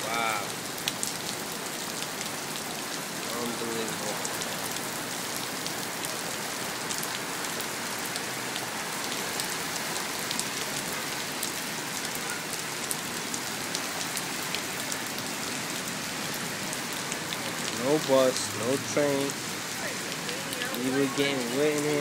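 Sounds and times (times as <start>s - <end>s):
heavy rain falling: 0.0s - 22.0s
rain drops ticking: 0.0s - 22.0s.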